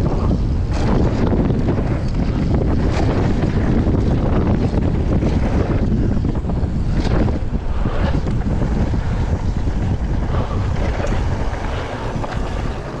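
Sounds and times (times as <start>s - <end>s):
tyres rolling over dirt: 0.0s - 13.0s
wind rushing over microphone: 0.0s - 13.0s.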